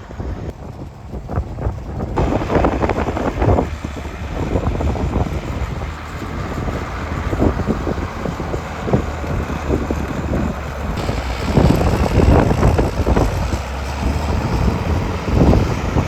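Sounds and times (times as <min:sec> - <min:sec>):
tractor diesel engine running: 0:00.0 - 0:16.0
wind buffeting microphone: 0:00.0 - 0:16.0.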